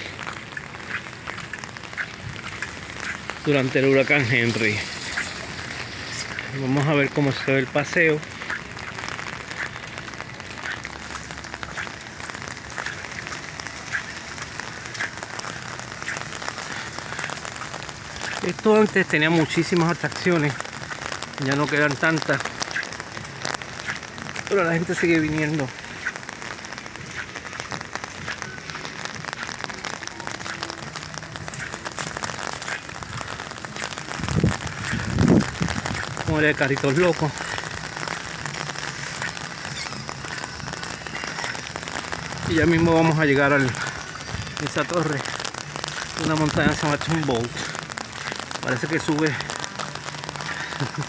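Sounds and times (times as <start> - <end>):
footsteps on wet pavement: 0.0 - 51.0
rain on wet pavement: 0.0 - 51.0.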